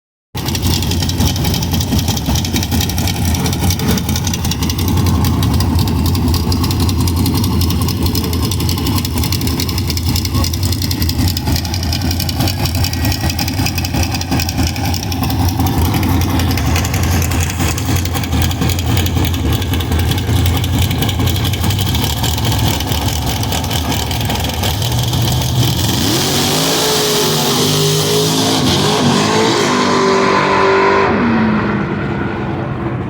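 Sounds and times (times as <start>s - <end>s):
drag car engine revving: 0.4s - 33.0s.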